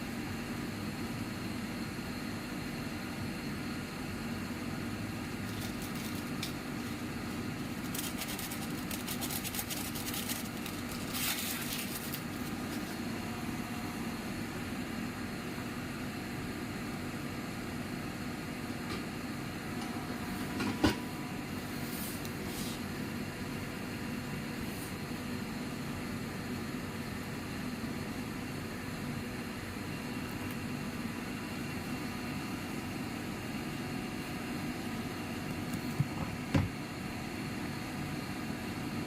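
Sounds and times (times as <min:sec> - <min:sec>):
microwave oven humming: 0:00.0 - 0:39.0.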